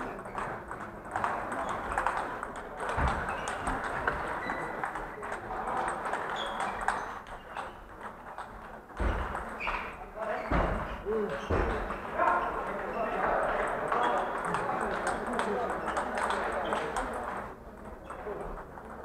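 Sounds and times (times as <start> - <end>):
table tennis balls clicking: 0.0 - 10.0, 11.7 - 19.0.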